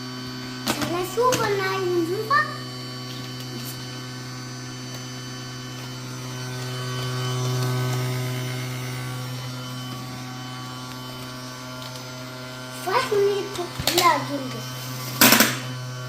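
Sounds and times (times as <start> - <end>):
vacuum cleaner motor humming: 0.0 - 16.0.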